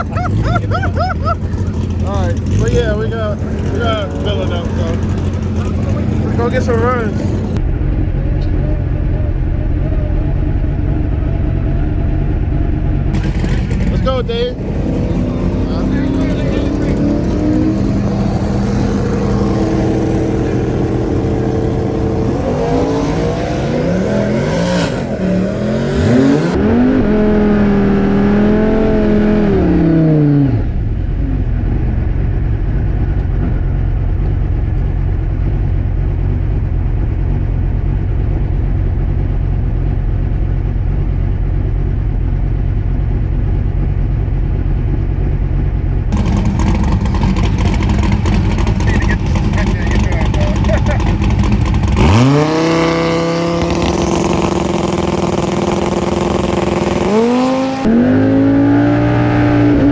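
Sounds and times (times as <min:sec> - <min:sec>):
car engine revving: 0:00.0 - 0:35.6, 0:46.1 - 0:59.9
steady low drone: 0:00.0 - 0:55.1.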